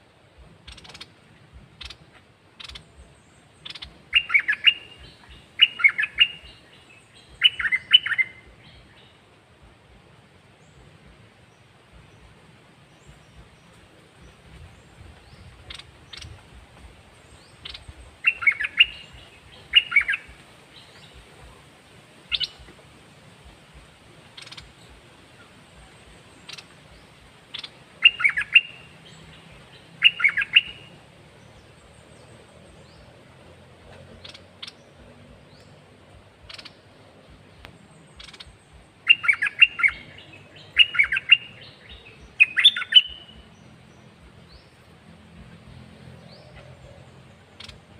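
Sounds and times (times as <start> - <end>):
bird singing warbled phrases: 0.4 - 9.3, 10.5 - 47.9
bird chirps: 0.6 - 9.2, 10.6 - 21.6, 22.3 - 22.8, 24.2 - 33.2, 33.8 - 47.9.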